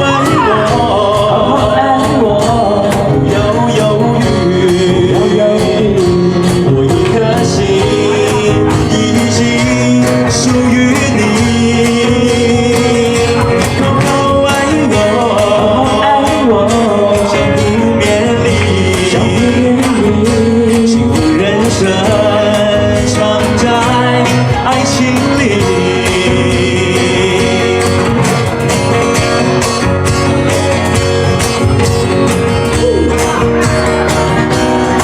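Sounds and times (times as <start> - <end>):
live band playing pop ballad: 0.0 - 35.0.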